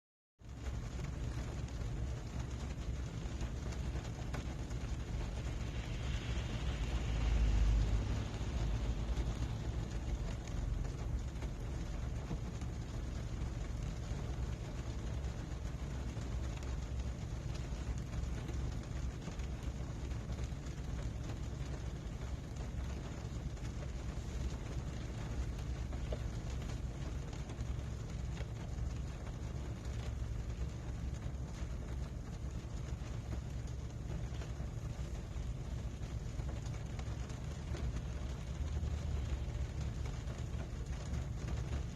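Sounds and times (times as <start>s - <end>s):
deep low rumble: 0.4s - 41.9s
rain drumming on car roof: 0.4s - 41.9s.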